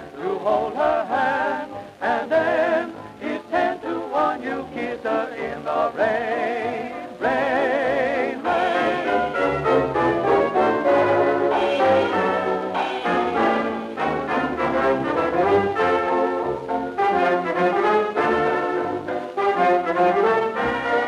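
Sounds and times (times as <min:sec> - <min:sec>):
old dance band music: 0:00.0 - 0:21.0.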